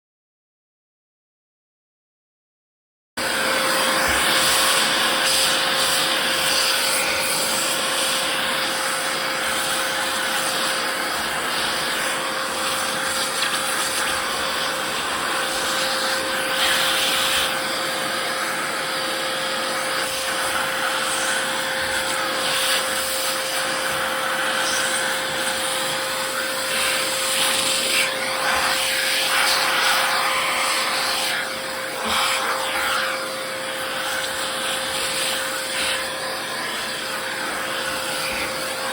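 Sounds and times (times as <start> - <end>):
vacuum cleaner running: 3.2 - 38.9.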